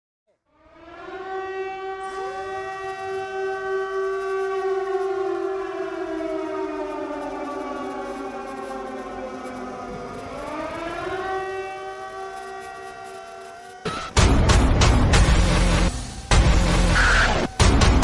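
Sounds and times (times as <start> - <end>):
drone motors and propellers whining: 0.8 - 18.0.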